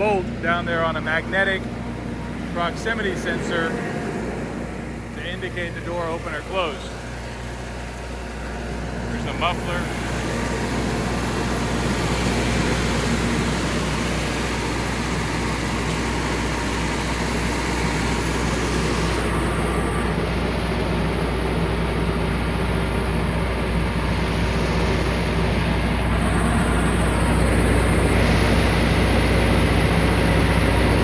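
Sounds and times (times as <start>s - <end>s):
generator engine droning: 0.0s - 31.0s.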